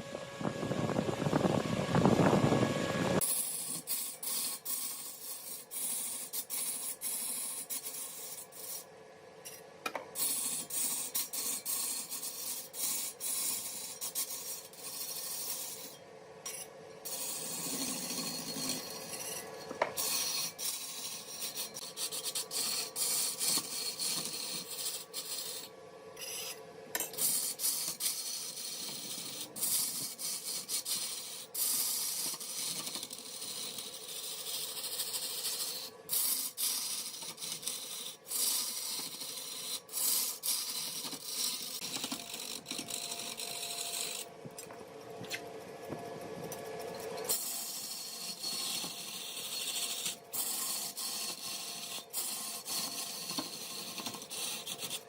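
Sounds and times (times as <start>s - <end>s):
scraping and rasping on wood: 3.2s - 8.9s, 10.2s - 44.3s, 46.6s - 55.0s.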